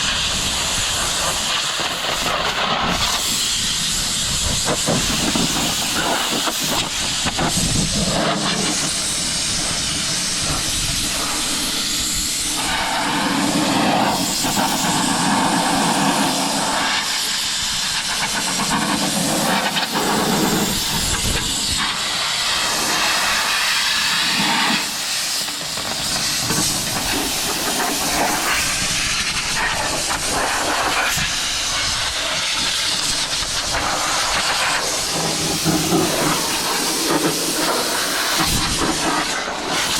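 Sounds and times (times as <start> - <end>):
compressed air hose hissing: 0.0 - 39.9.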